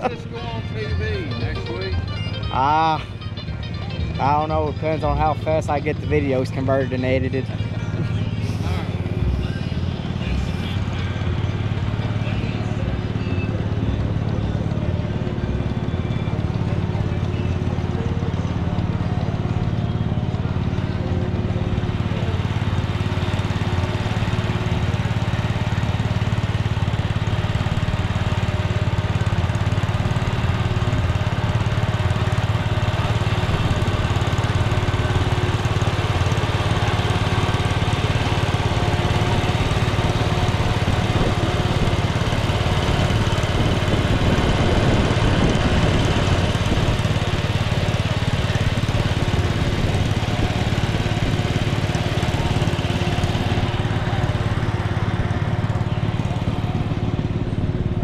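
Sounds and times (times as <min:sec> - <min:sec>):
tractor engines idling: 0:00.0 - 0:58.0.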